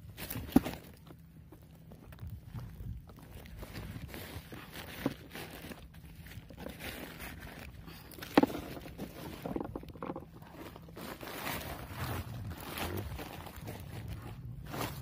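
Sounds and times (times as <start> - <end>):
rustling of net and sacking: 0.0 - 15.0.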